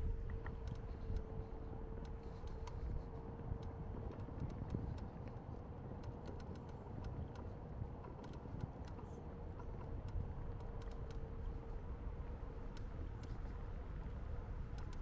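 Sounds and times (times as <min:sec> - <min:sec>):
faint constant hum: 0:00.0 - 0:15.0
traffic rumble: 0:00.0 - 0:15.0
light clicks: 0:00.2 - 0:11.6, 0:12.6 - 0:15.0.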